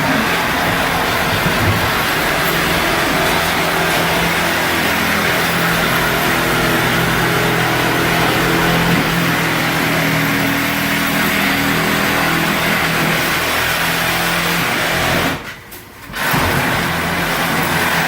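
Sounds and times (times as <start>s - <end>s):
power tool motor running: 0.0s - 15.4s.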